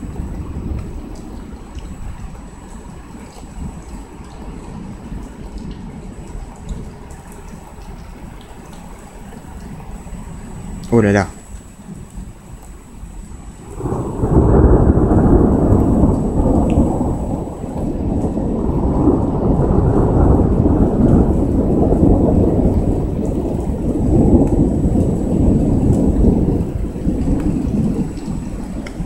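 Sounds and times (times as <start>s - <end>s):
rolling thunder: 0.0s - 29.0s.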